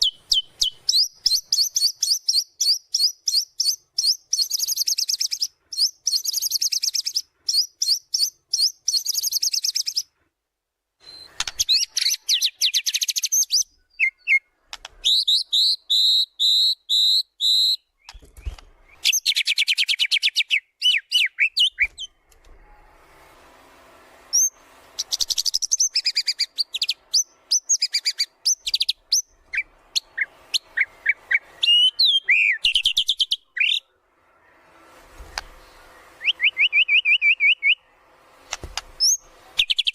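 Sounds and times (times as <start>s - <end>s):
songbird trills and whistles: 0.0s - 10.1s, 11.0s - 22.1s, 24.3s - 33.9s, 36.1s - 37.9s.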